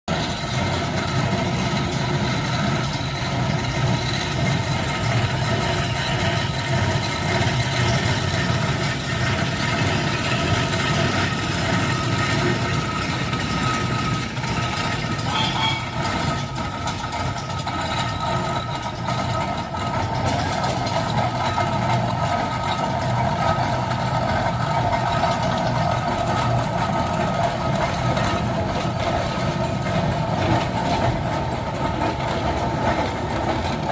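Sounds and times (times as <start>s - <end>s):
steam engine running: 0.1s - 33.9s.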